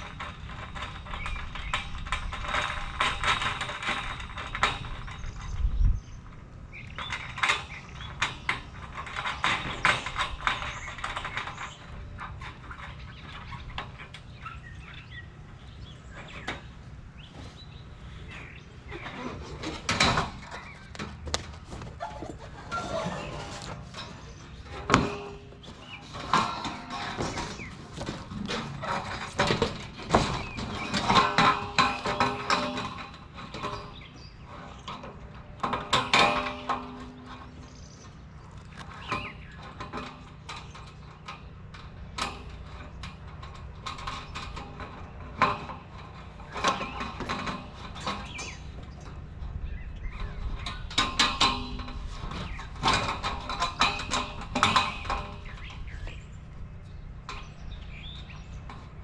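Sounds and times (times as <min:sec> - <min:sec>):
sheet metal clanking: 0:00.0 - 0:59.0.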